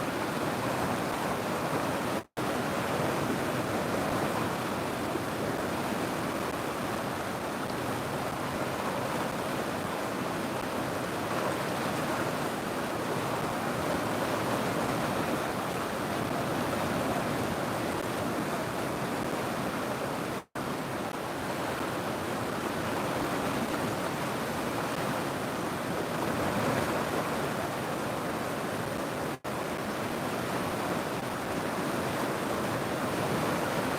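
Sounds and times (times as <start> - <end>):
river water rushing: 0.0 - 33.9.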